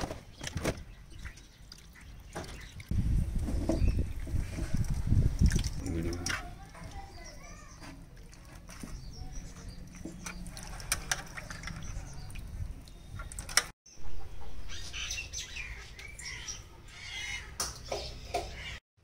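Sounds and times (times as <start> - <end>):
birds chirping: 0.1 - 5.0, 5.8 - 18.8.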